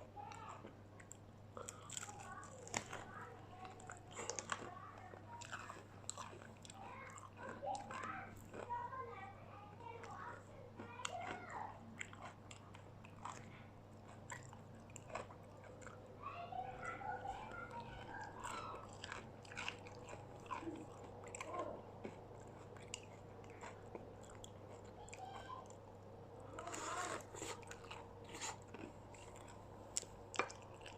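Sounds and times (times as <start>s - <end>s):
chewing crispy fried food: 0.1s - 30.9s.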